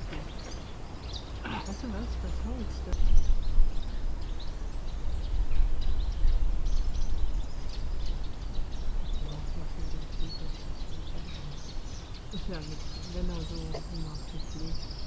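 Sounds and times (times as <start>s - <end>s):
faint low hum: 0.0s - 15.0s
wind rumbling on microphone: 0.0s - 15.0s.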